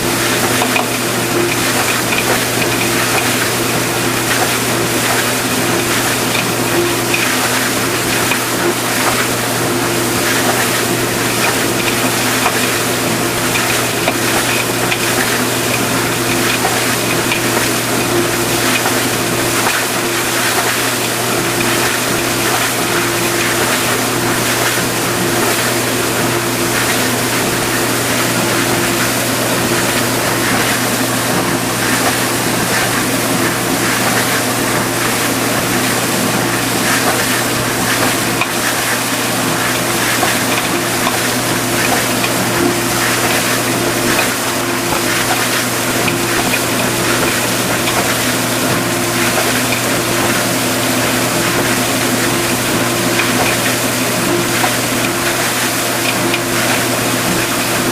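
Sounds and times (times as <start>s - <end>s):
dishwasher pump motor hum: 0.0s - 57.9s
water spraying and splashing: 0.0s - 57.9s.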